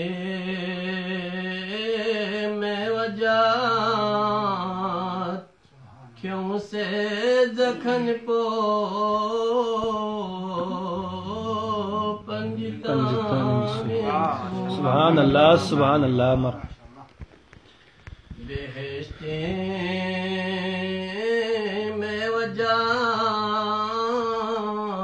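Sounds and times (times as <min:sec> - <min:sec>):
man chanting unaccompanied: 0:00.0 - 0:17.2, 0:18.4 - 0:25.0.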